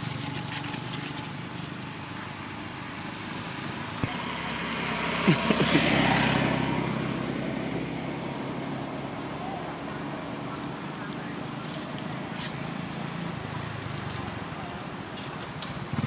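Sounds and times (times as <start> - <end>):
vehicle passing by: 0.0 - 14.9.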